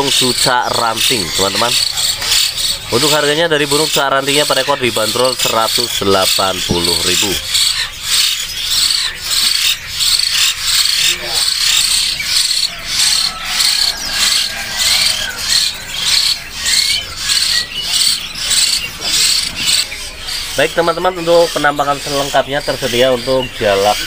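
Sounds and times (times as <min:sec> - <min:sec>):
faint bird chirps: 0:00.0 - 0:24.0
rhythmic rasping: 0:00.0 - 0:24.0.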